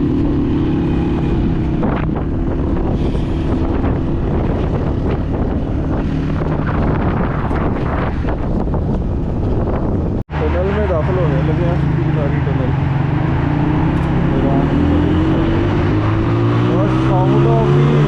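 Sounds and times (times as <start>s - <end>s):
wind on microphone: 0.0s - 10.2s, 12.8s - 18.0s
motorcycle engine running: 0.0s - 18.0s.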